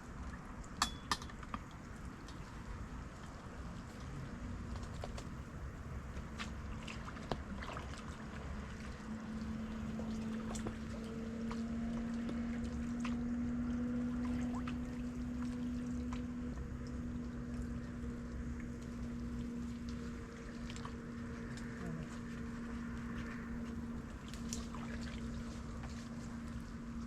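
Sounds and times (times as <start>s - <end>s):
steady low hum: 0.0s - 27.0s
water splashing and trickling: 0.0s - 27.0s.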